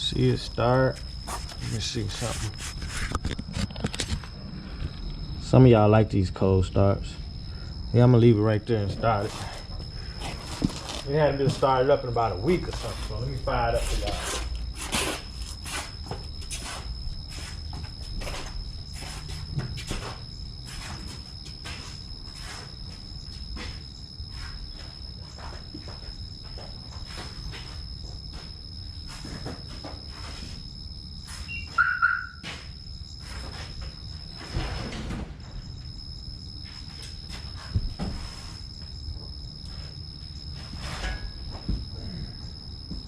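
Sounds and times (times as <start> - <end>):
high-pitched insect drone: 0.0 - 43.0.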